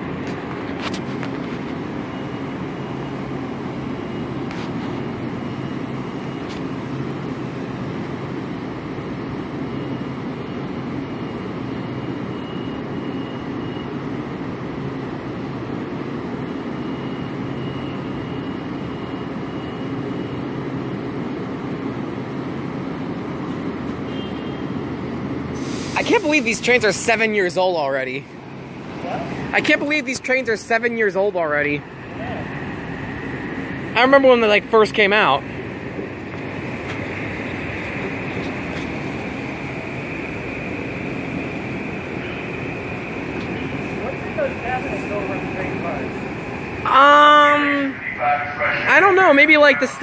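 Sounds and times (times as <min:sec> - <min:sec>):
electric train humming: 0:00.0 - 0:50.0
faint high whine: 0:00.0 - 0:50.0.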